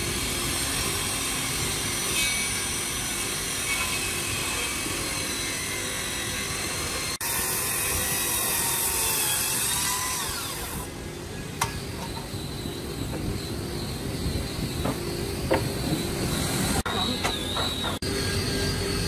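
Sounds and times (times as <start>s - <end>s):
circular saw cutting wood: 0.0s - 19.0s
wood-shop mechanical hum: 0.0s - 19.0s.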